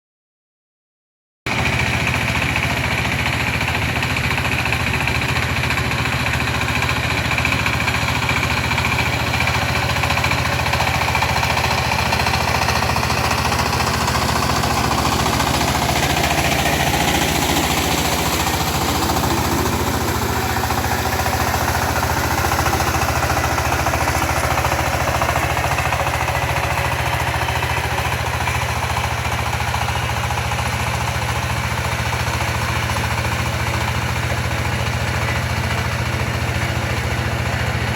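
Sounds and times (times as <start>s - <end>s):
tractor engine knocking: 1.5s - 37.9s.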